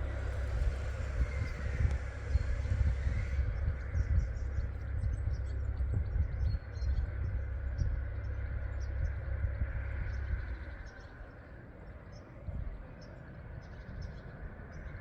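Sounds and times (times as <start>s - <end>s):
fluctuating low rumble: 0.0s - 15.0s.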